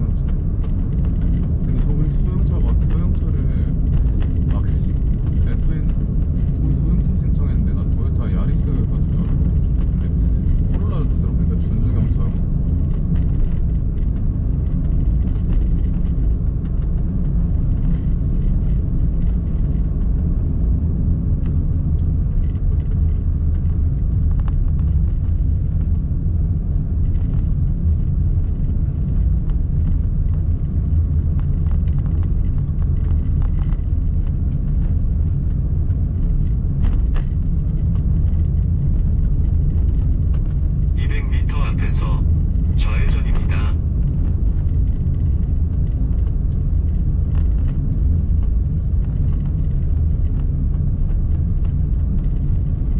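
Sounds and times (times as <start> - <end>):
car driving road rumble: 0.0 - 52.9.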